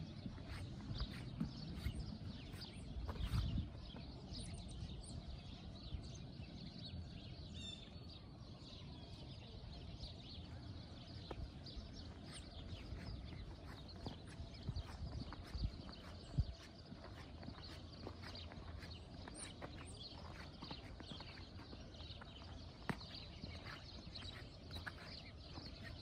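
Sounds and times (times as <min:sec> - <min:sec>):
bird chirp: 0:00.0 - 0:26.0.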